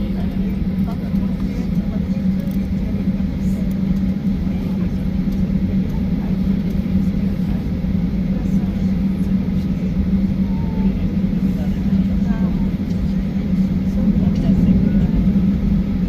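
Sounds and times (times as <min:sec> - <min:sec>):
airplane cabin rumble: 0:00.0 - 0:16.0
low hum: 0:00.0 - 0:16.0.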